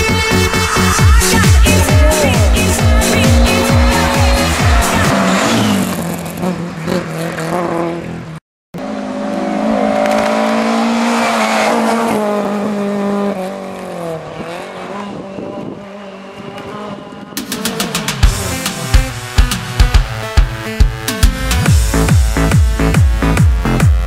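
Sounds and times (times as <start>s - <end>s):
car engine revving: 0.3s - 20.4s, 21.1s - 23.9s.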